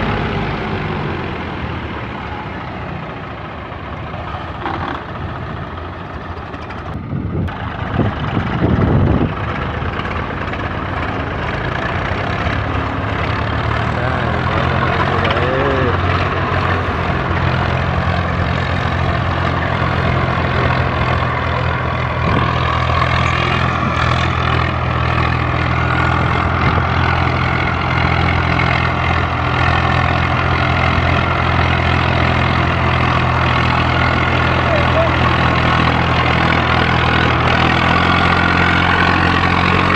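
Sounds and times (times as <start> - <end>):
tractor diesel engines under load: 0.0 - 39.9.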